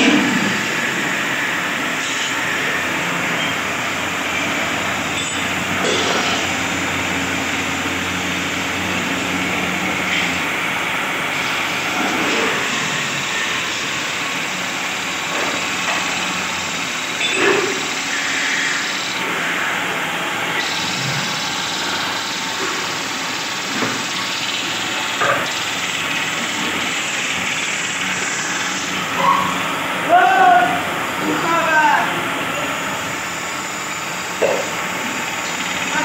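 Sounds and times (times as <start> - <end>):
chisel cutting spinning wood: 0.0 - 36.0
lathe motor hum: 0.0 - 36.0.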